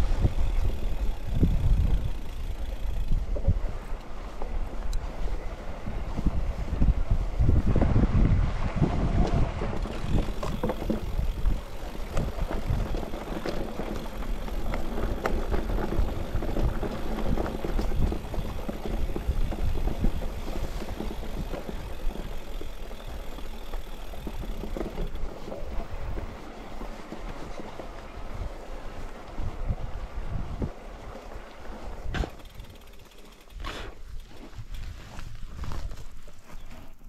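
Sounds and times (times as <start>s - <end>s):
bike rattles and clicks: 0.0s - 37.0s
bike tyre noise on rough ground: 0.0s - 37.0s
wind rumbling on microphone: 0.0s - 37.0s.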